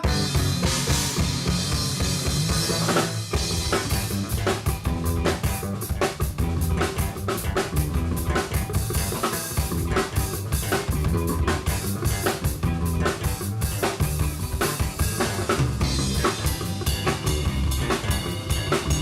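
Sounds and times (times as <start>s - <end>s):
bass drum and snare beat: 0.0s - 19.0s
live band playing: 0.0s - 19.0s.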